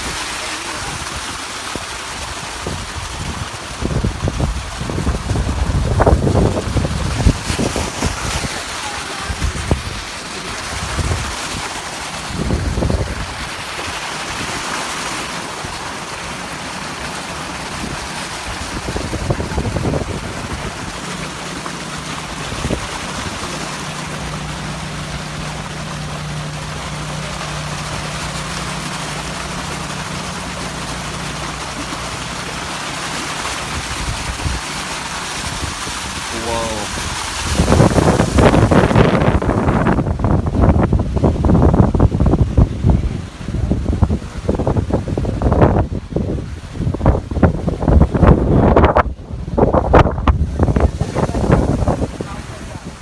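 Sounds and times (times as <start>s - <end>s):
low engine hum: 0.0s - 53.0s
water rushing and splashing: 0.0s - 53.0s
wind on microphone: 1.8s - 14.7s, 17.6s - 32.8s, 33.6s - 53.0s.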